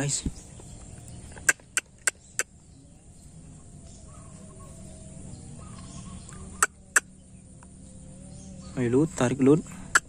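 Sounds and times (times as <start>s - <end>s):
faint wavering bird calls: 0.0s - 10.0s
low steady outdoor hum: 0.0s - 10.0s.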